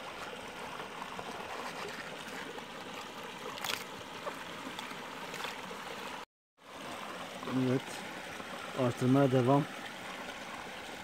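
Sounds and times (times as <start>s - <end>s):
creek water trickling: 0.0s - 11.0s.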